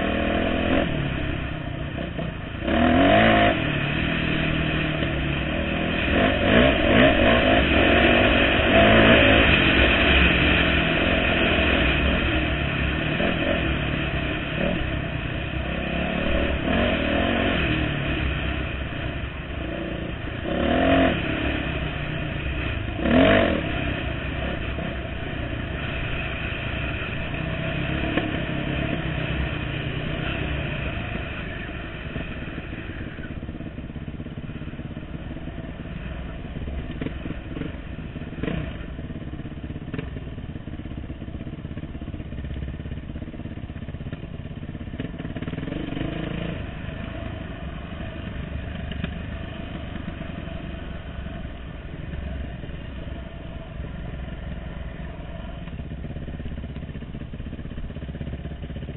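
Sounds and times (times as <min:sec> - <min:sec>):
dirt bike engine: 0:00.0 - 0:58.9.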